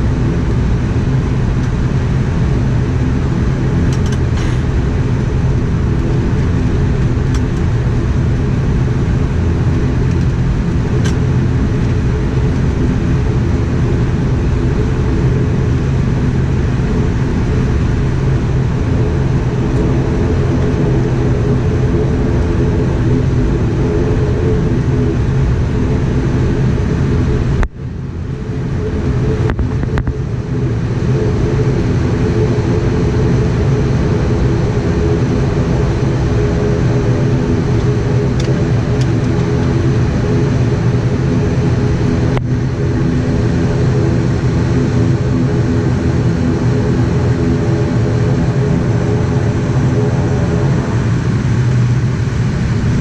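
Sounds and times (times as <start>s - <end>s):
turboprop engines droning in cabin: 0.0s - 53.0s.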